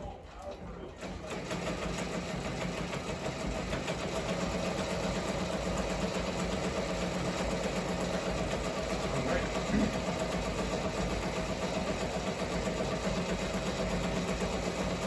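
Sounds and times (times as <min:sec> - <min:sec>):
embroidery machine stitching: 0:00.4 - 0:15.0.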